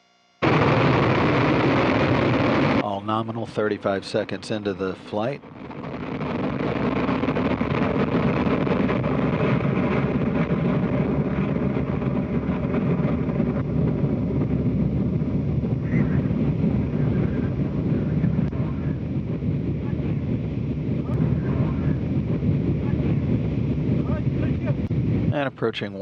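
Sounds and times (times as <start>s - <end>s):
rocket engine roaring: 0.4s - 26.0s.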